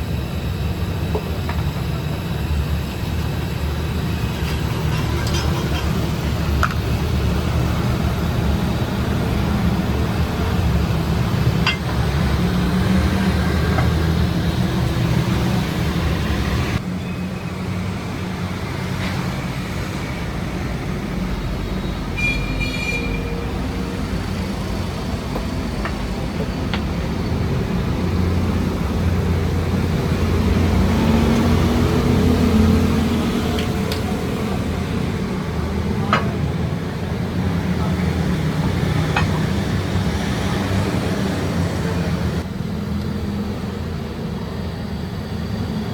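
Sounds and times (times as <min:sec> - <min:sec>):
machinery low rumble: 0:00.0 - 0:45.9.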